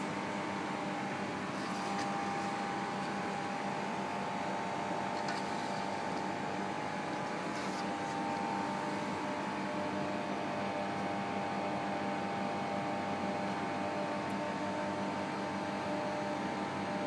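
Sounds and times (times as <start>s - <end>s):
laboratory equipment humming: 0.0s - 17.0s.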